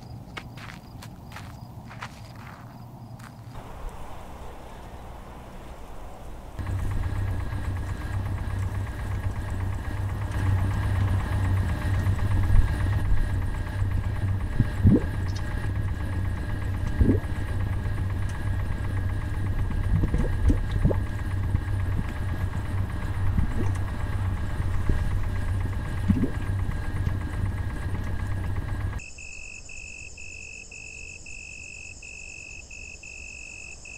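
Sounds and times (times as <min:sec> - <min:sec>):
crickets chirping: 0:00.0 - 0:33.9
low engine-like drone: 0:00.0 - 0:33.9.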